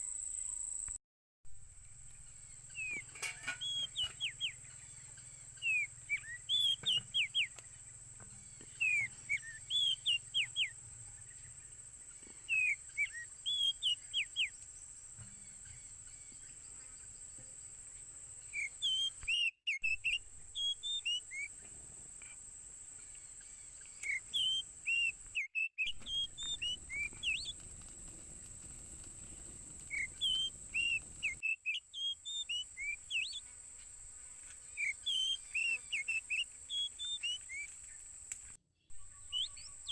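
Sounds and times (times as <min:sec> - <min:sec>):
birds chirping: 0:01.7 - 0:21.8, 0:22.9 - 0:39.9.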